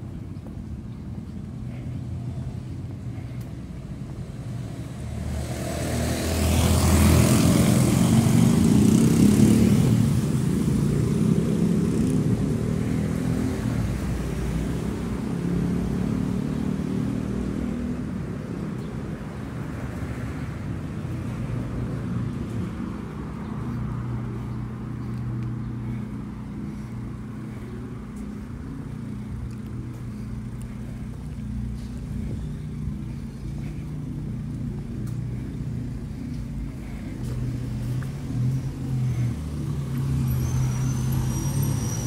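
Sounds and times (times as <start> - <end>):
vehicle engine humming: 0.0 - 42.0.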